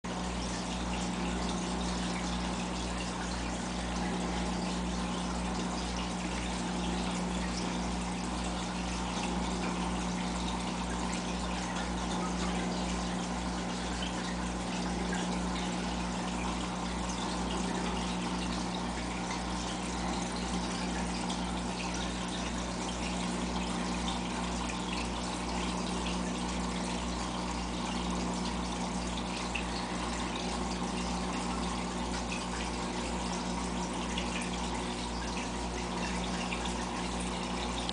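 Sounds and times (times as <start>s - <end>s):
low pump hum: 0.1s - 37.9s
water trickling and splashing: 0.1s - 37.9s.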